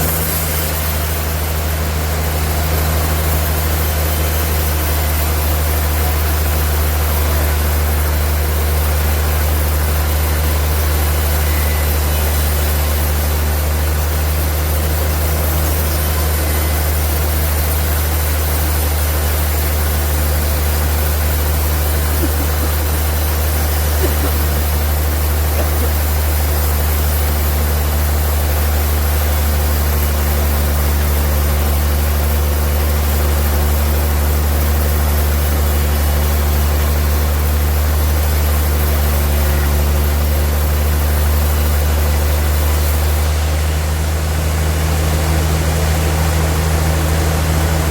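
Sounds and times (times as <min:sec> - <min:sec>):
constant hiss: 0:00.0 - 0:47.9
sawmill motors humming: 0:00.0 - 0:47.9.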